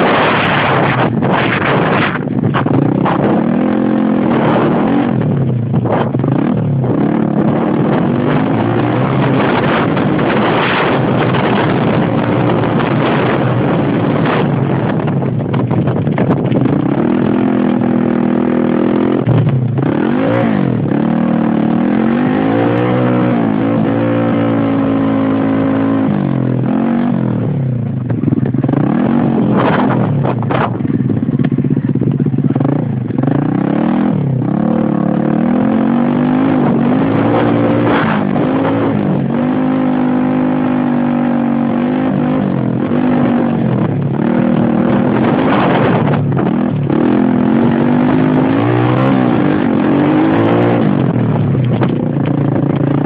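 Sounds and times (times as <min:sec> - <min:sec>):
motorbike engine revving: 0:00.0 - 0:53.0
wind noise on microphone: 0:00.0 - 0:53.0.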